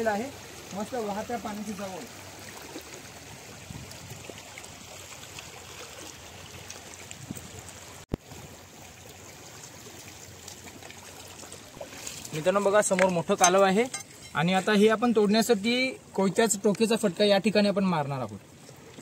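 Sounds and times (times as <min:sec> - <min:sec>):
seawater trickling between rocks: 0:00.0 - 0:19.0.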